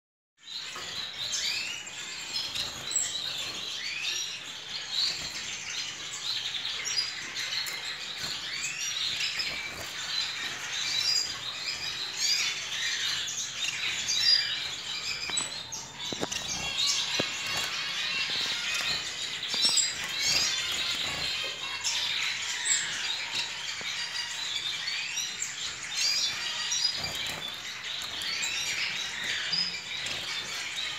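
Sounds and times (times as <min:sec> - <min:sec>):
finches chirping and calling: 0:00.4 - 0:30.9.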